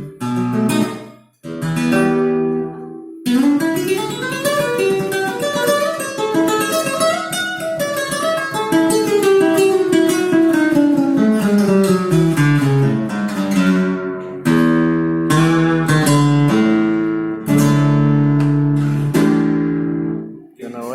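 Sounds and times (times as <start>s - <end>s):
flamenco guitar playing: 0.0s - 20.9s.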